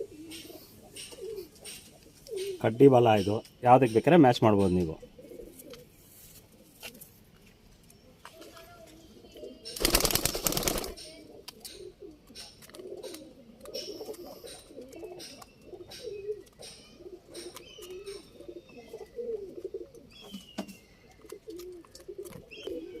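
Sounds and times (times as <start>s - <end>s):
pigeons cooing: 0.0s - 7.1s, 8.9s - 23.0s.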